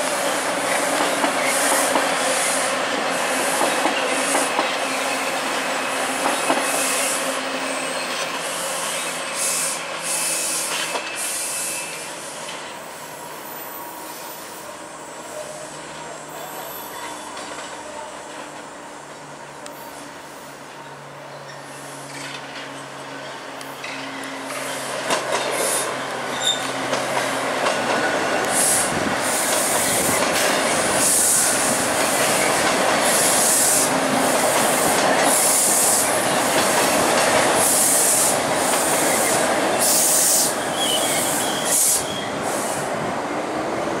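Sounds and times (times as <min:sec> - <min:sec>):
subway train passing: 0:00.0 - 0:44.0.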